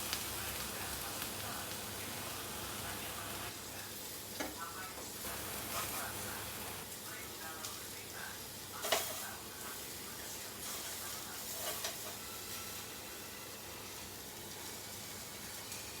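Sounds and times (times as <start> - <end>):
tofu sizzling in hot oil: 0.0 - 16.0.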